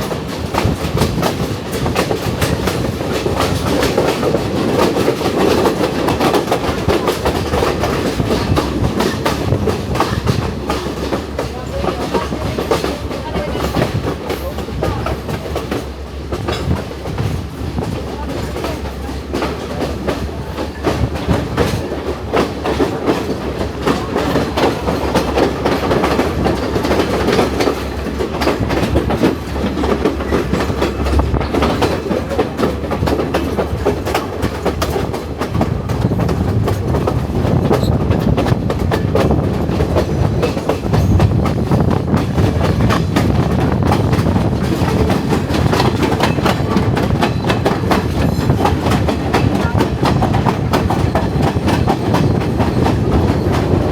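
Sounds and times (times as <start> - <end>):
train rumble: 0.0 - 53.9
train wheels clicking on rails: 0.0 - 53.9.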